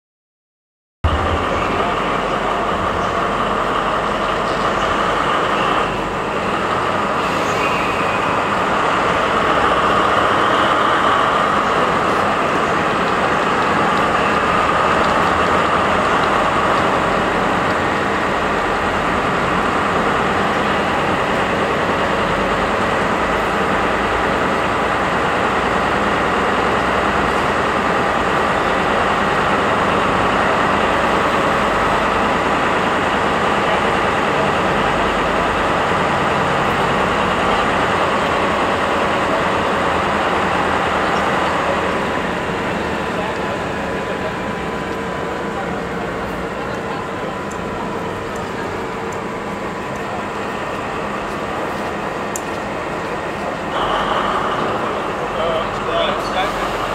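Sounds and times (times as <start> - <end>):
diesel locomotive engine idling: 1.0 - 56.9.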